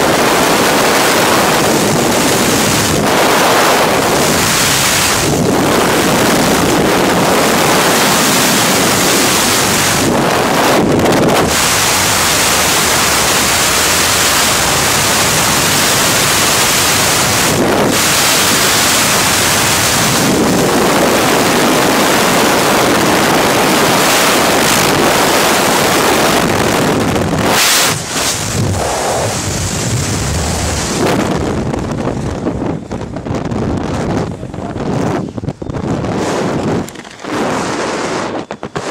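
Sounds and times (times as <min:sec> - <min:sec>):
freefall wind on microphone: 0:00.0 - 0:38.9.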